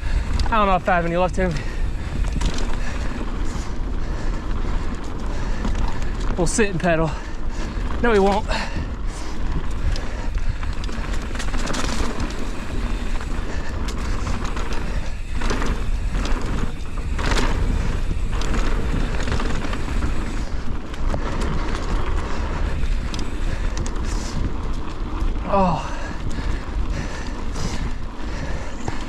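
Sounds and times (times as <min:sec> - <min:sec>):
wind on microphone: 0:00.0 - 0:06.4, 0:07.2 - 0:29.0
bike rattling and knocking: 0:00.0 - 0:29.0
tyres running over dirt: 0:00.0 - 0:29.0.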